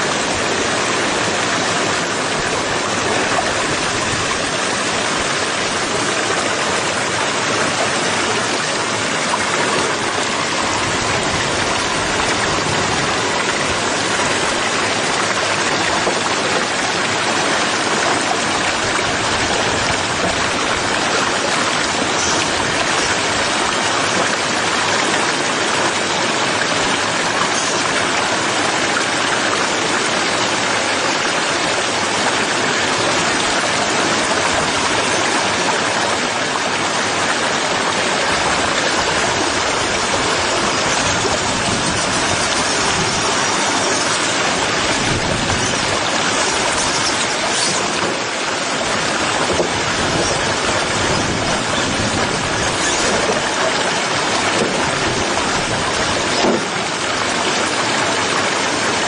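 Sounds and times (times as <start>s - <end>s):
waterfall splashing over rocks: 0.0s - 59.0s.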